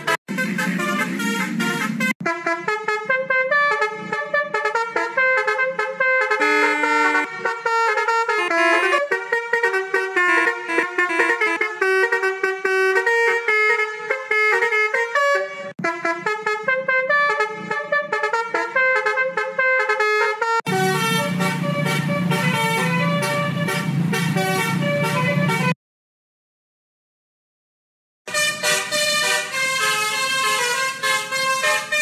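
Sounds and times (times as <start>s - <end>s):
musical multi-tone horn tune: 0.0s - 25.8s, 28.3s - 32.0s.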